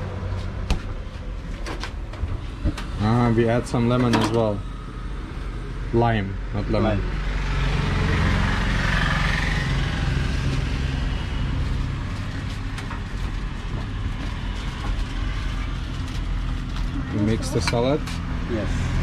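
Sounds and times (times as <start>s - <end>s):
road traffic rumbling: 0.0s - 19.0s.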